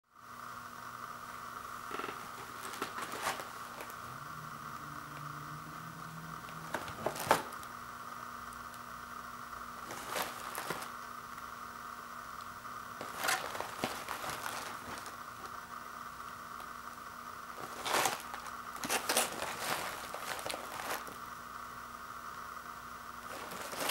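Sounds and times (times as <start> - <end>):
faint steady hiss: 0.1 - 23.9.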